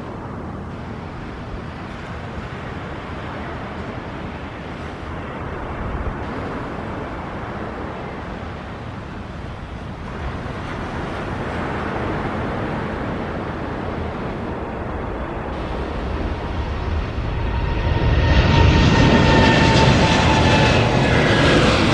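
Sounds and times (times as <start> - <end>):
jet engine rushing: 0.0 - 21.9.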